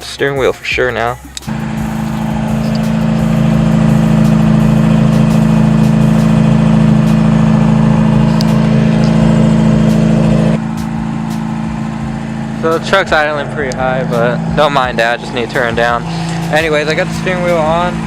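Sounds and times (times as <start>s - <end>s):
pickup engine idling: 1.1s - 18.0s.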